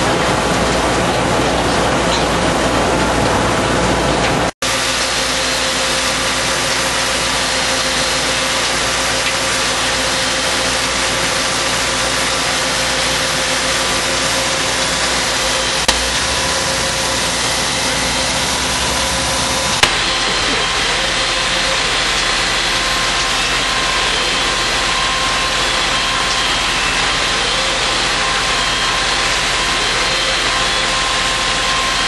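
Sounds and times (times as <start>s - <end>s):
soil processing machine running: 0.0s - 32.0s.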